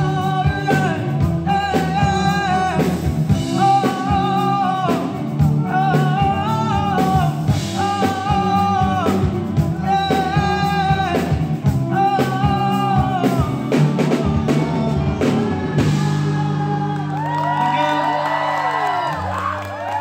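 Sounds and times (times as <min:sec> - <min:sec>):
person singing: 0:00.0 - 0:19.1
drum kit: 0:00.0 - 0:20.0
guitar: 0:00.0 - 0:20.0.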